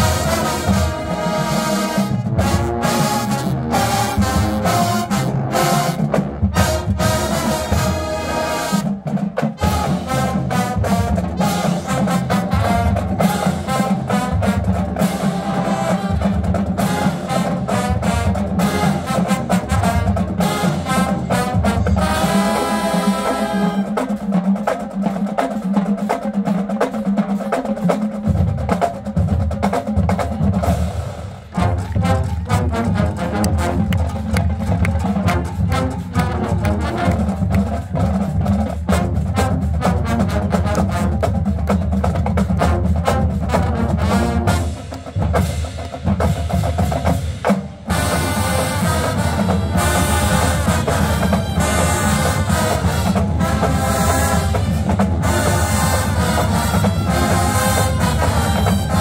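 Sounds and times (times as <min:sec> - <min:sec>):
drumline percussion: 0:00.0 - 0:59.0
marching band playing: 0:00.0 - 0:59.0.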